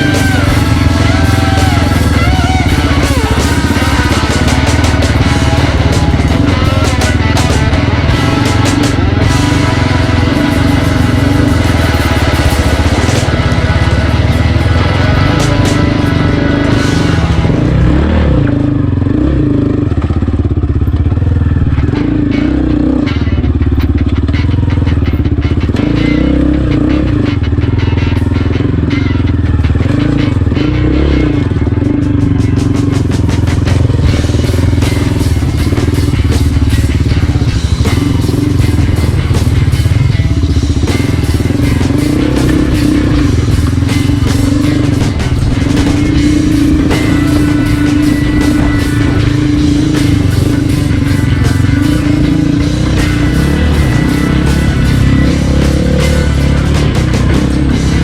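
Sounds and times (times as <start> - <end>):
background music: 0.0 - 58.0
motorcycle engine running: 0.0 - 58.0.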